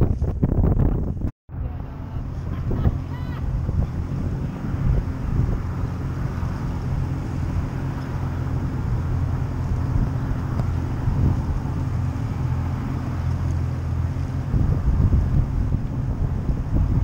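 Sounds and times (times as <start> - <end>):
boat engine idling: 1.5 - 17.0.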